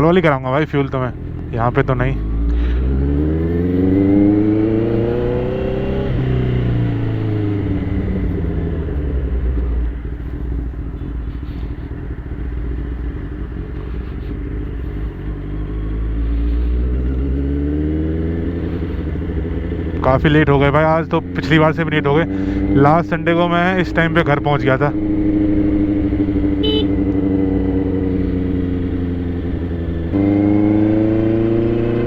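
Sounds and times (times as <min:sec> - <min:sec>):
motorcycle engine accelerating: 0:00.0 - 0:32.0
road and wind noise: 0:00.0 - 0:32.0.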